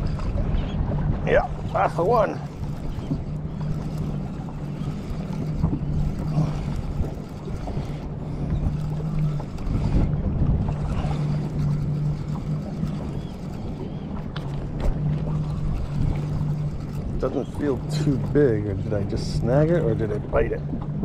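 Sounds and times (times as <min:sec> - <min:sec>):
boat motor humming: 0:00.0 - 0:21.0
water: 0:00.0 - 0:21.0
wind: 0:00.0 - 0:21.0.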